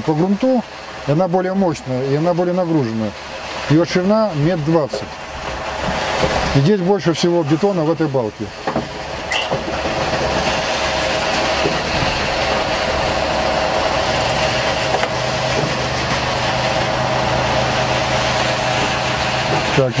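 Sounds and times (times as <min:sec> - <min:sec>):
heavy diesel engines running: 0:00.0 - 0:20.0.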